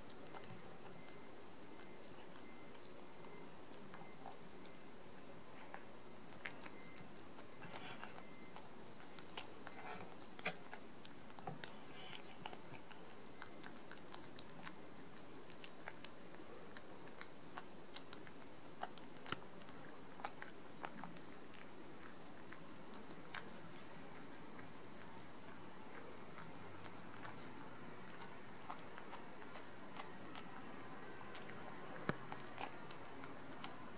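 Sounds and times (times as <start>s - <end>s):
cat chewing and licking: 0.0s - 33.9s
faint steady hiss: 0.0s - 33.9s.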